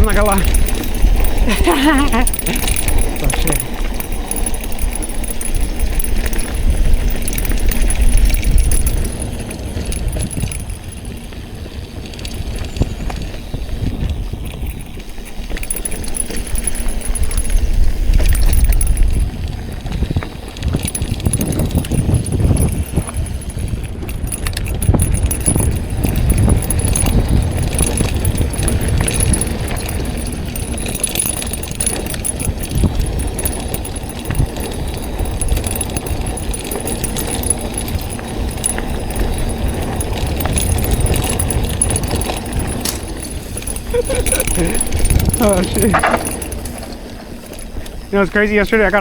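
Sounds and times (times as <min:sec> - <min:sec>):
bike chain rattling: 0:00.0 - 0:49.0
bike tyres on dirt and rocks: 0:00.0 - 0:49.0
wind buffeting microphone: 0:00.0 - 0:49.0.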